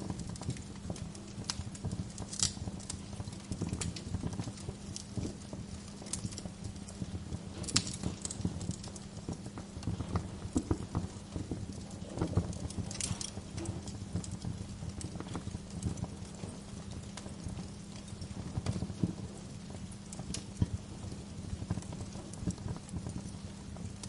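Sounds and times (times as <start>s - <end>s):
steady low hum: 0.0s - 24.0s
wood fire crackling: 0.0s - 24.0s.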